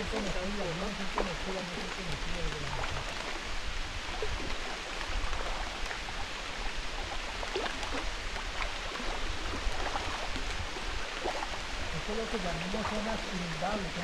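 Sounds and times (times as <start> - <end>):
feet sloshing through water: 0.0 - 14.0
small splashes: 0.0 - 14.0.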